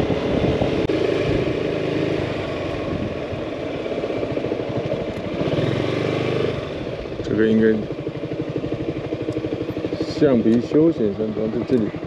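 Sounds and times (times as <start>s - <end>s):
road and wind noise: 0.0s - 12.0s
scooter engine running: 0.0s - 12.0s.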